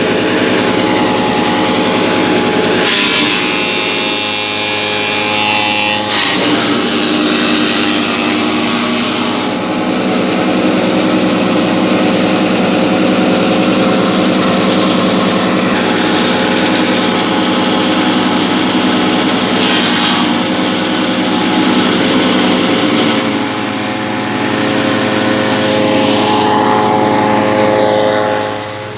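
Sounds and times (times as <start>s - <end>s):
wood chipper engine running: 0.0s - 28.9s.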